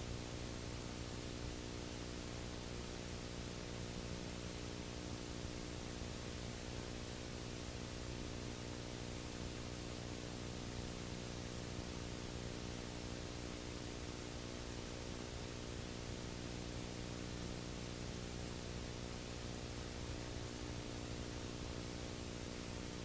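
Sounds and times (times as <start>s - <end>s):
low electrical hum: 0.0s - 23.0s
steady hiss: 0.0s - 23.0s.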